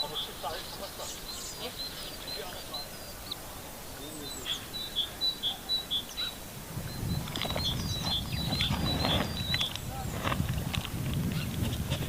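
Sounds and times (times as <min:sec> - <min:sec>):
small bird chirping: 0:00.0 - 0:10.6.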